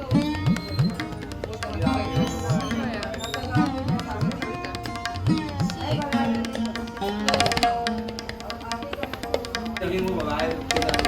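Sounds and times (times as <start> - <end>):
held melodic tones: 0.0 - 11.0
tabla hand drumming: 0.0 - 11.0.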